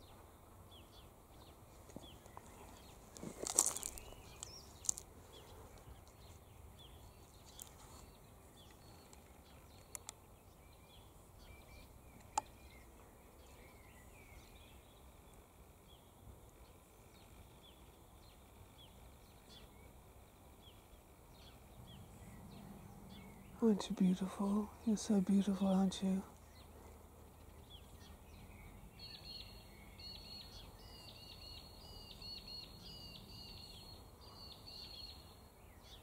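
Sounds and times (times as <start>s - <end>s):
distant small birds chirping: 0.0s - 36.0s.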